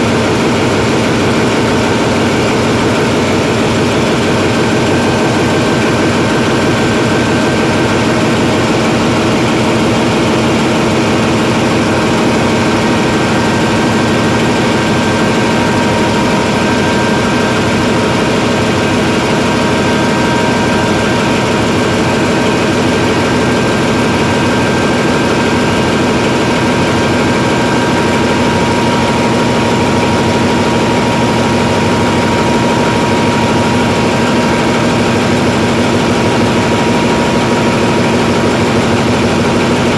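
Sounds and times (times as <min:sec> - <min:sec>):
diesel generator engine running: 0:00.0 - 0:39.9
steady whine: 0:00.0 - 0:39.9.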